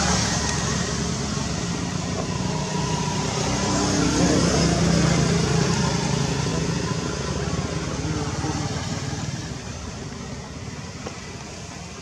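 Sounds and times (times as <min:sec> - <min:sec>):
engine-like low hum: 0:00.0 - 0:12.0.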